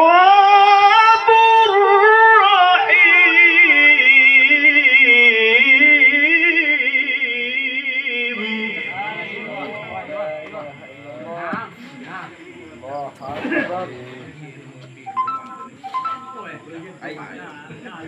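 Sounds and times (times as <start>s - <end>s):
man reciting melodically through pa: 0.0s - 18.0s.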